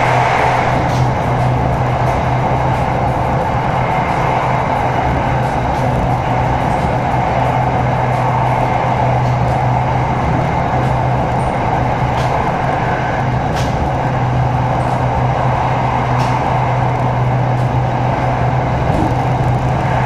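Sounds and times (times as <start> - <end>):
constant low hum: 0.0 - 20.0
train rumble inside carriage: 0.0 - 20.0.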